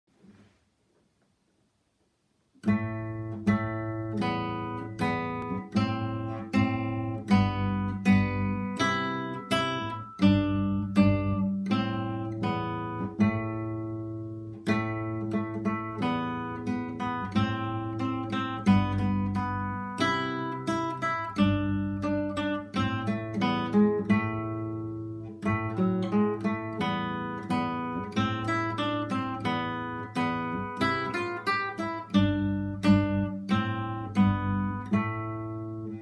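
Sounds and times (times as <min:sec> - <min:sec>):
classical guitar playing: 0:02.6 - 0:36.0.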